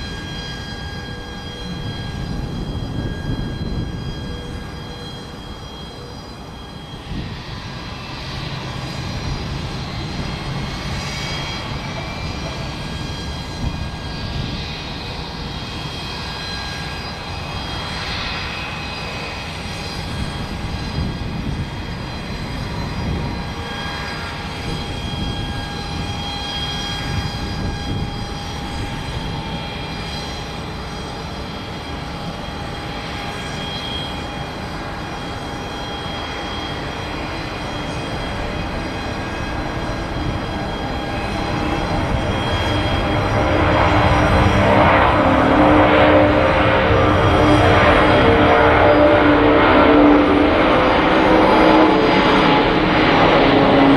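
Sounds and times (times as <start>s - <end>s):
jet engine roar with whine: 0.0s - 53.9s.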